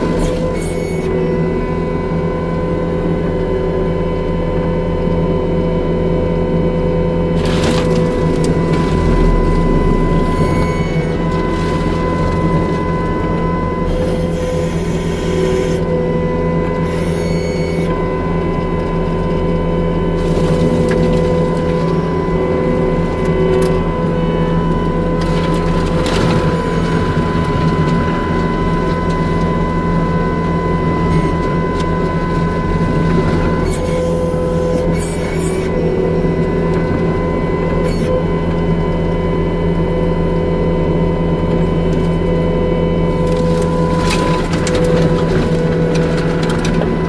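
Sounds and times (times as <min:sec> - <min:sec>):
skid steer engine running: 0:00.0 - 0:47.0.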